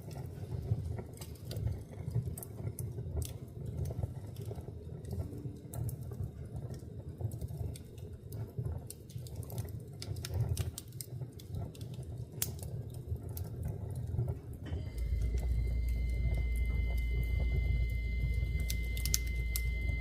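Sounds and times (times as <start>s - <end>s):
low hum with held tones: 0.0s - 20.0s
low rumble of flames: 0.0s - 20.0s
wood fire crackling and popping: 0.0s - 20.0s.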